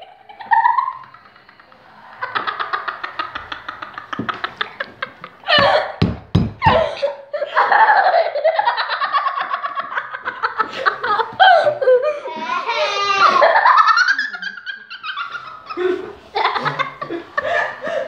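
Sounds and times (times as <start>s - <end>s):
children laughing: 0.0s - 6.0s, 6.6s - 18.0s.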